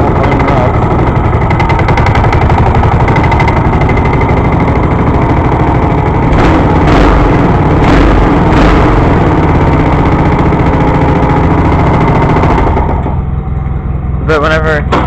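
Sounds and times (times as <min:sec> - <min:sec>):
small gasoline engine running: 0:00.0 - 0:14.7.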